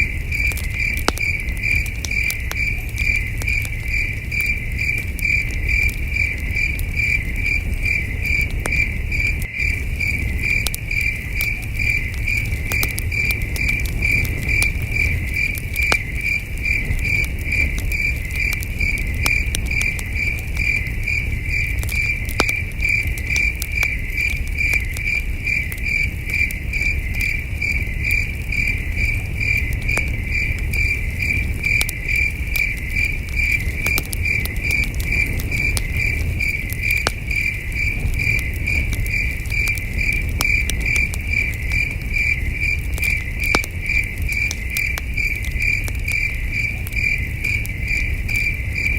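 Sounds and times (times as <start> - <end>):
campfire crackling: 0.0 - 48.9
crickets chirping: 0.0 - 48.9.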